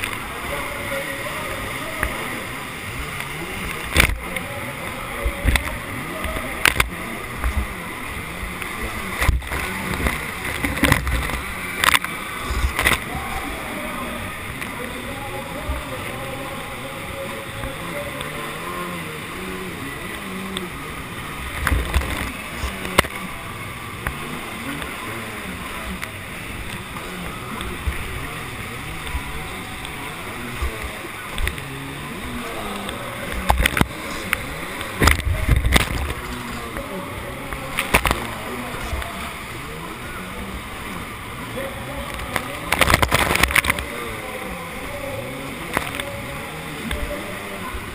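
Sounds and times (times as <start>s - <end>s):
jet ski engine running: 0.0s - 47.9s
water slapping: 0.0s - 47.9s.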